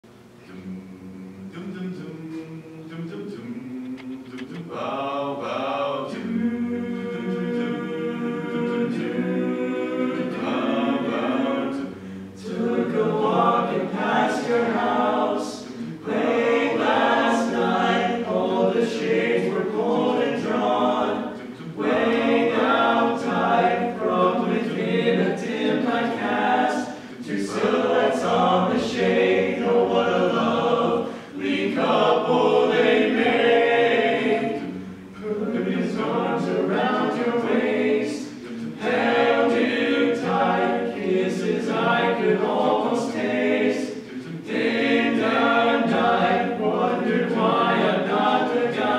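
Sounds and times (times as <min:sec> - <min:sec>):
male a cappella group singing: 0:00.4 - 0:48.9.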